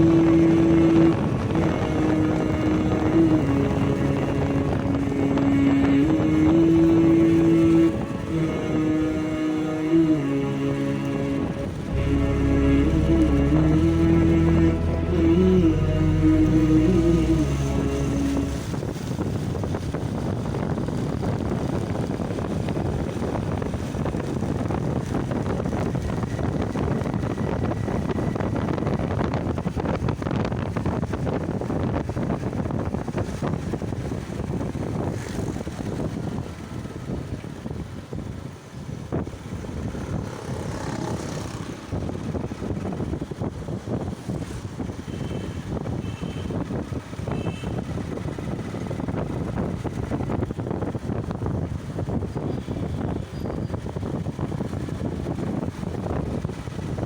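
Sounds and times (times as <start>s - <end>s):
vehicle and road noise: 0.0s - 57.0s
wind buffeting microphone: 0.0s - 57.0s.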